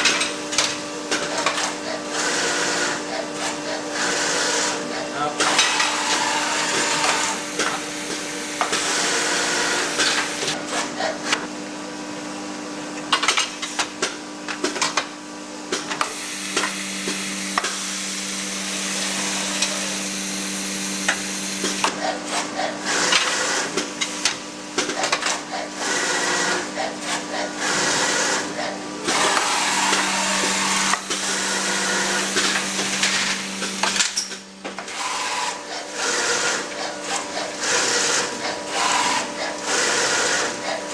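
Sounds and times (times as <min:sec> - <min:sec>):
machine mechanical hum: 0:00.0 - 0:40.9.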